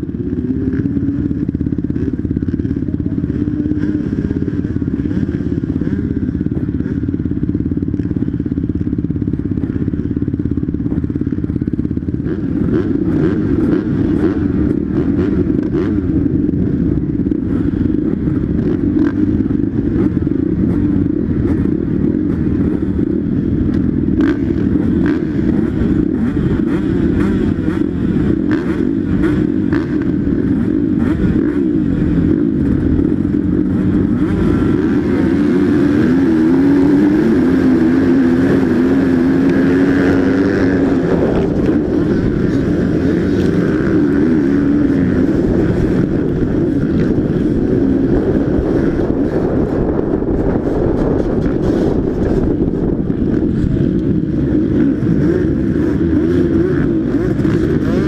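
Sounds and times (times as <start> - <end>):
motocross bike engines: 0.0 - 58.0.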